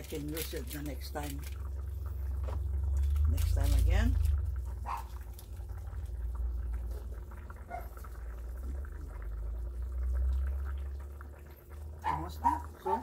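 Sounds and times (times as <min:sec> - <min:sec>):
pot bubbling faintly: 0:00.0 - 0:13.0
steady low rumble: 0:00.4 - 0:12.0.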